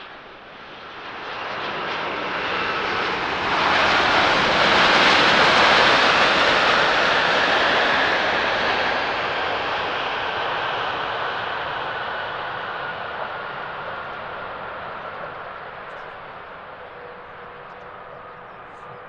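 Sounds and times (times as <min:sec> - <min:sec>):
jet airliner engine roar: 0:00.0 - 0:19.0.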